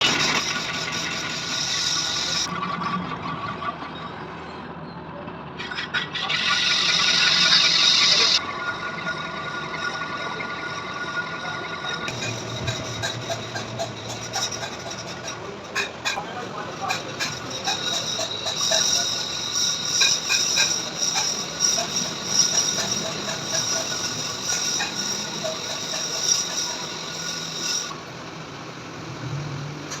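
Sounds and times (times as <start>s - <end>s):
cutting tool scraping workpiece: 0.0s - 2.5s, 5.6s - 8.5s, 9.1s - 28.0s
lathe humming: 0.0s - 2.5s, 6.2s - 28.2s.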